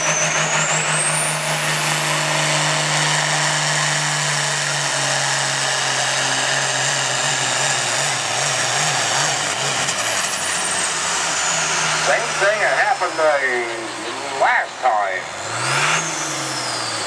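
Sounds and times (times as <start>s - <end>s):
tractor engine running hard: 0.0s - 17.0s.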